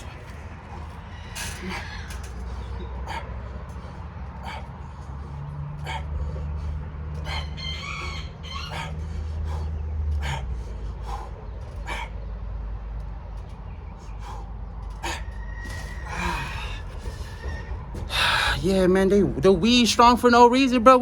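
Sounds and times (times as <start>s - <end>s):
man breathing hard: 0.0s - 18.6s
low background rumble: 0.0s - 21.0s.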